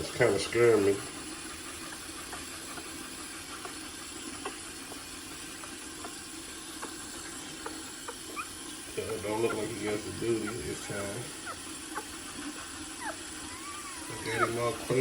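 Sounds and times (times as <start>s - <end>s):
water running from tap: 0.0s - 15.0s.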